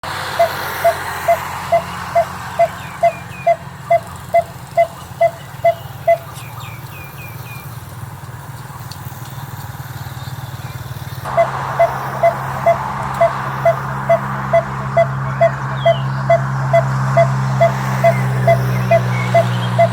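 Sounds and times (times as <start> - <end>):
barbet repeated calling notes: 0.0 - 7.4, 11.3 - 19.9
faint high bird chirps: 0.0 - 7.7, 11.3 - 19.9.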